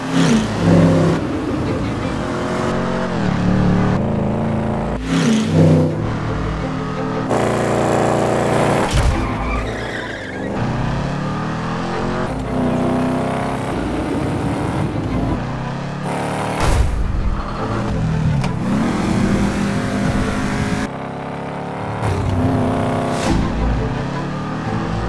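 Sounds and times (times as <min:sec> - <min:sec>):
car engines revving: 0:00.0 - 0:25.0
tyres skidding and squealing: 0:00.0 - 0:25.0.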